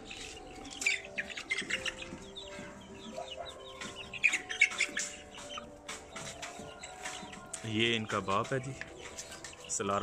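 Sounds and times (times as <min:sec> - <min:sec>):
birds chirping and clucking: 0:00.0 - 0:10.0.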